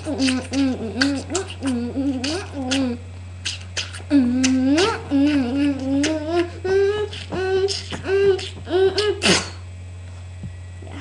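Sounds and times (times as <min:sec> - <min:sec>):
child beatboxing: 0:00.0 - 0:09.6
low electrical hum: 0:00.0 - 0:11.0.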